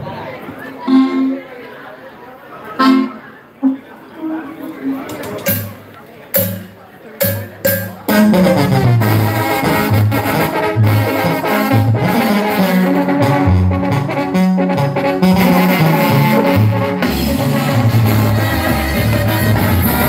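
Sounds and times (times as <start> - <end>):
brass band playing dance music: 0.8 - 1.6, 2.7 - 20.0.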